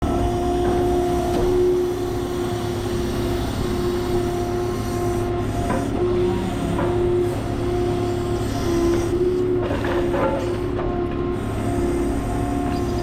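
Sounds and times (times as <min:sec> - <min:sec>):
hydraulic crane whining: 0:00.0 - 0:13.0.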